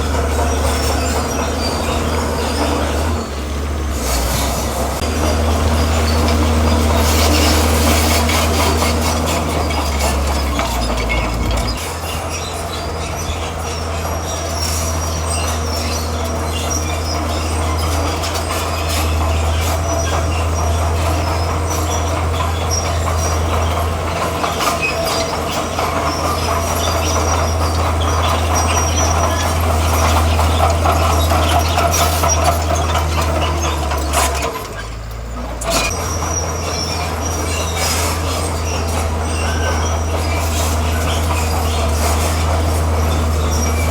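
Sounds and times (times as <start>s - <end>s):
bulldozer diesel engine droning: 0.0s - 43.9s
steel tracks squealing and clanking: 0.0s - 43.9s.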